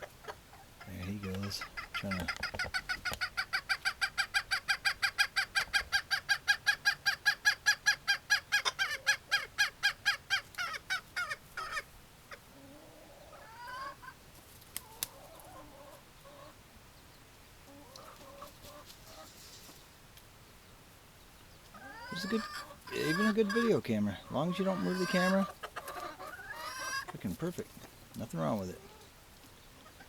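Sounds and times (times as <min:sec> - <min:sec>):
chicken clucking: 0:00.0 - 0:14.2, 0:14.8 - 0:16.6, 0:17.7 - 0:19.8, 0:21.6 - 0:30.0.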